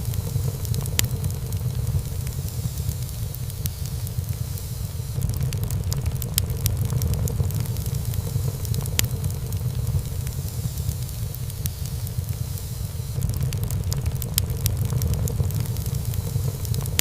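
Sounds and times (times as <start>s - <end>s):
burning wood crackling and popping: 0.0s - 17.0s
fire rumbling in fireplace: 0.0s - 17.0s.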